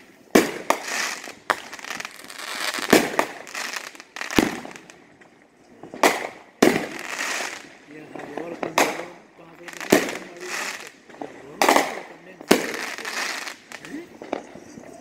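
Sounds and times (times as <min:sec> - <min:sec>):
fireworks bursting with bangs: 0:00.0 - 0:15.0
fireworks crackling: 0:00.0 - 0:15.0.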